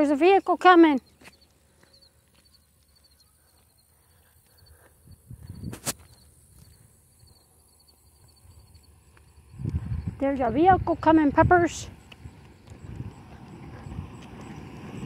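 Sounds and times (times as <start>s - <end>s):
faint insects chirping: 0.0s - 15.0s.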